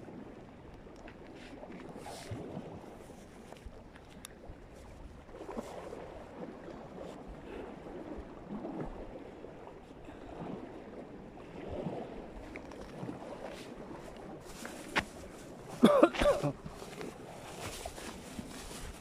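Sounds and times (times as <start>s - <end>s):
small waves lapping: 0.0s - 19.0s.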